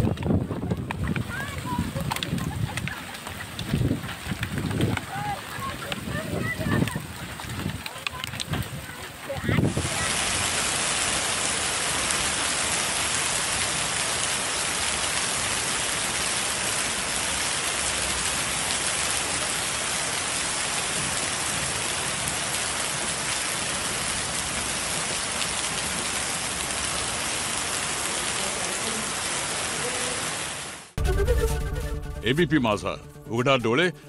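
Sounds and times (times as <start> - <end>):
heavy rain and hail on tiles: 0.0 - 31.0.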